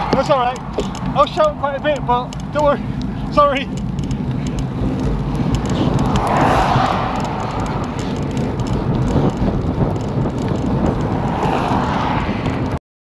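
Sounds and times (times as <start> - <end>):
road traffic passing: 0.0 - 12.8
wind rushing on microphone: 0.0 - 12.8.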